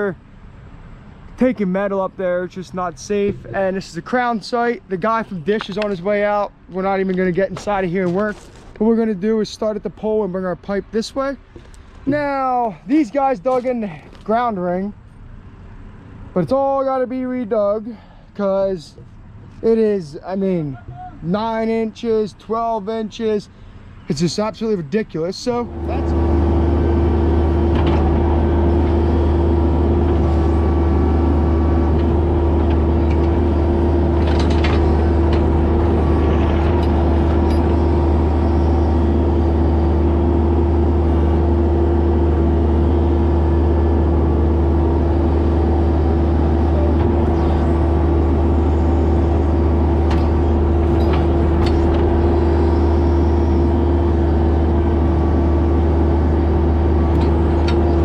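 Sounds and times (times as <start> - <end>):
excavator diesel engine humming: 0.0 - 58.0.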